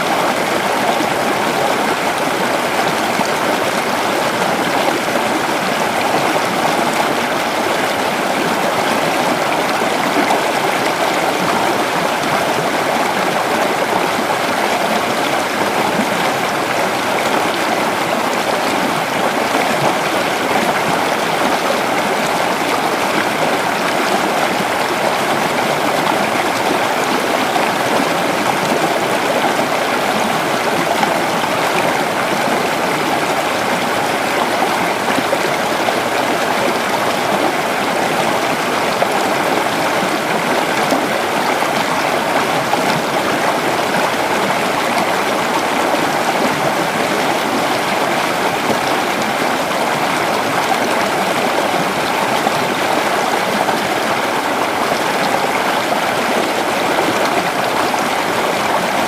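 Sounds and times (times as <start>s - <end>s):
creek flowing: 0.0s - 59.0s.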